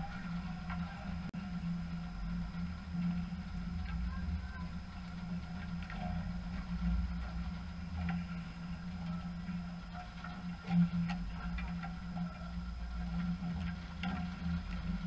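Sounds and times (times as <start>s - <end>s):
faint distant voices: 0.0s - 15.0s
low hum: 0.0s - 15.0s.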